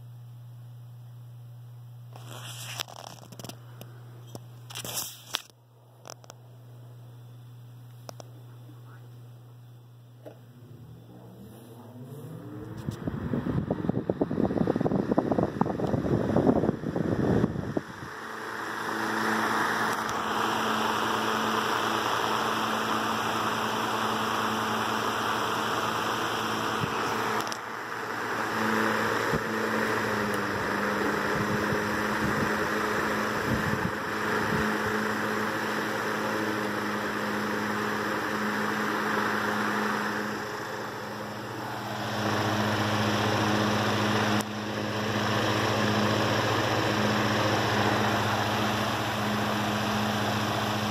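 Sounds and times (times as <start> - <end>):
fan motor hum: 0.0 - 50.9
fan blades air rush: 10.1 - 50.9.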